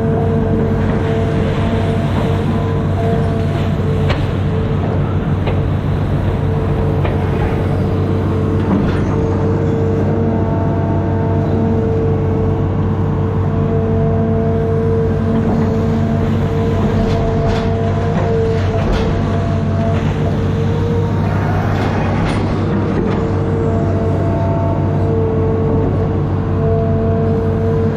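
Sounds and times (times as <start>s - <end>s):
diesel engine running: 0.0s - 27.9s
steady whine: 0.0s - 27.9s.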